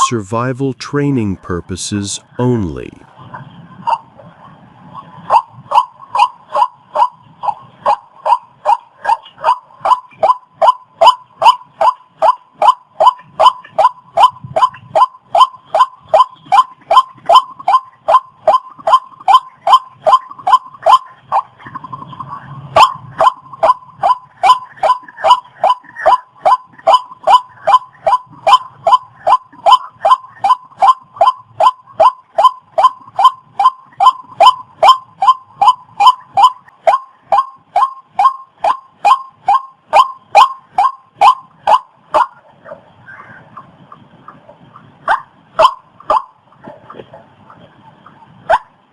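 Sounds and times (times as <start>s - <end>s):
waterhen calling: 0.0s - 4.1s, 5.0s - 43.7s, 44.3s - 48.6s.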